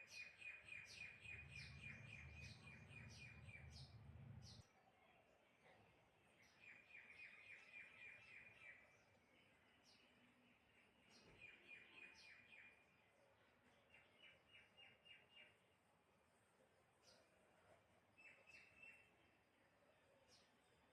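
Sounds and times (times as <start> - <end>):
faint bird chirping: 0.0 - 20.9.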